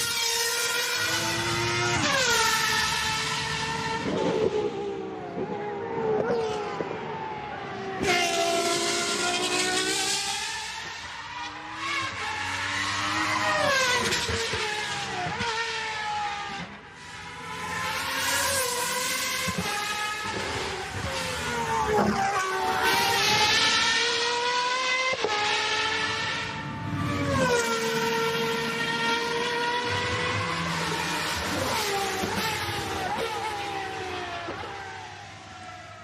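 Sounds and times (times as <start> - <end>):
race car engines revving and passing: 0.0 - 36.0.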